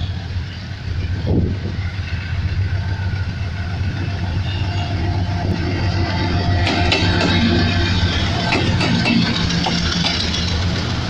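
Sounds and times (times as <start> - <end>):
locomotive engine rumble: 0.0 - 11.0.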